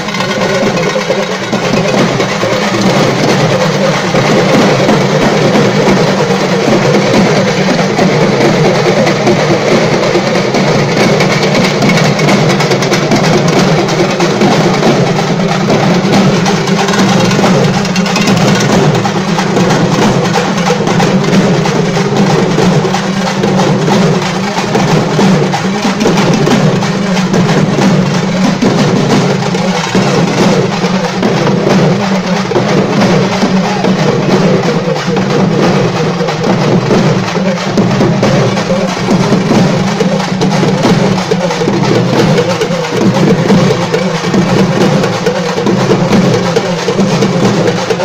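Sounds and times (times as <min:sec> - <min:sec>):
shoulder drums beaten with sticks: 0:00.0 - 0:48.0.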